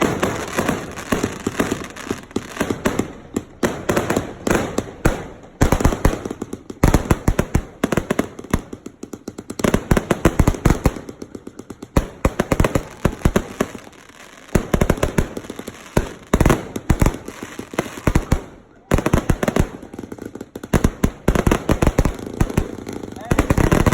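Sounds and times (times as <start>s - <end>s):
fireworks firing rapid volleys: 0.0s - 23.9s.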